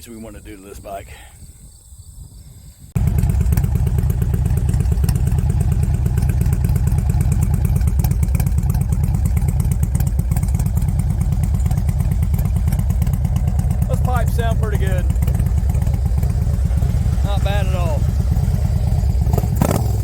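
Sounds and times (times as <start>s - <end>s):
motorcycle engine running: 3.0s - 20.0s.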